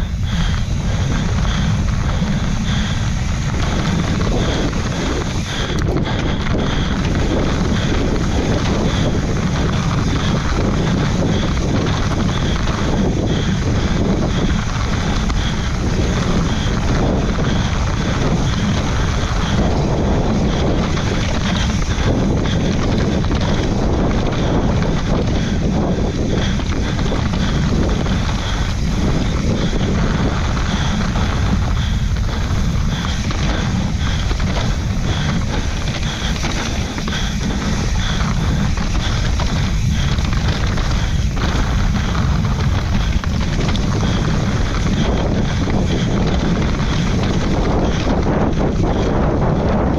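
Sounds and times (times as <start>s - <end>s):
bike tyres rumbling over dirt: 0.0s - 49.9s
wind buffeting microphone: 0.0s - 49.9s.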